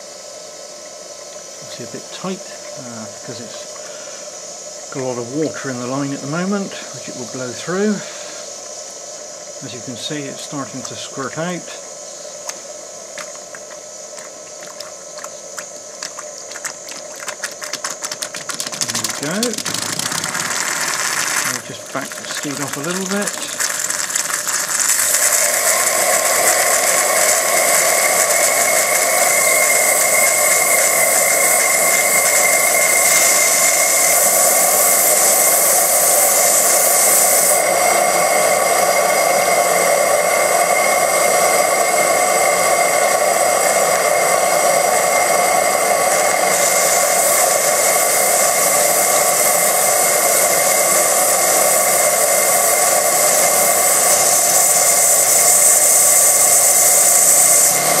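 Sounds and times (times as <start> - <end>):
steam engine hissing and whirring: 0.0 - 58.0.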